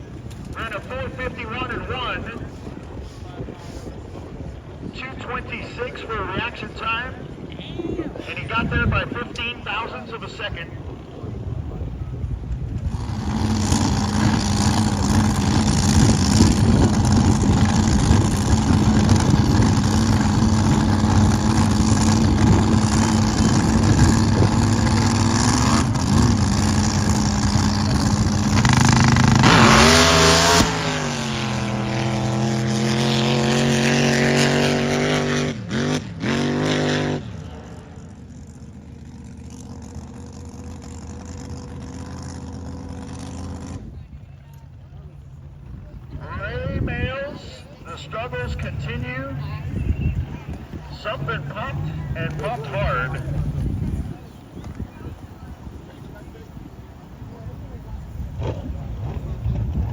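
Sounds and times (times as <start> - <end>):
drag boat engines roaring: 0.0 - 59.9.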